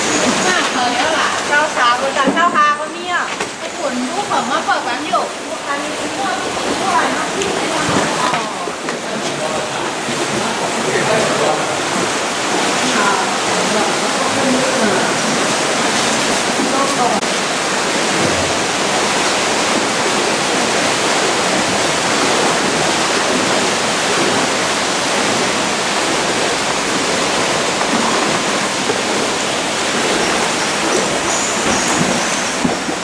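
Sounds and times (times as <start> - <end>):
water rushing: 0.0 - 33.0.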